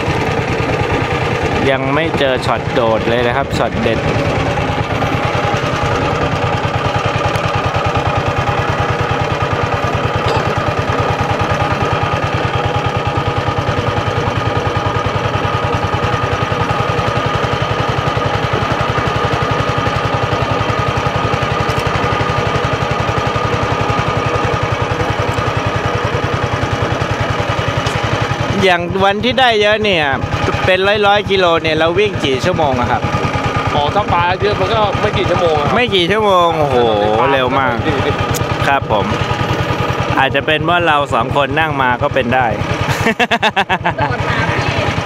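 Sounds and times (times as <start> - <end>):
steady whine: 0.0 - 42.9
boat engine chugging: 0.0 - 45.0.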